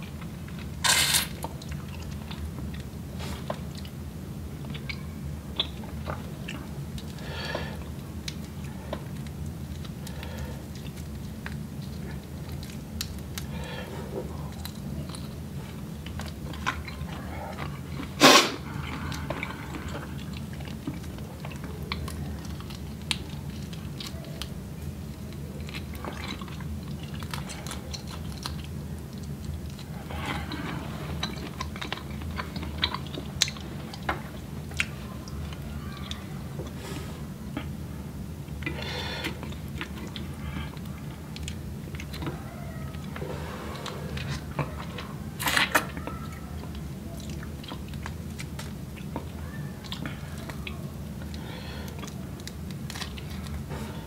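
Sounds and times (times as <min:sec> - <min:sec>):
chewing and mouth sounds: 0:00.0 - 0:54.0.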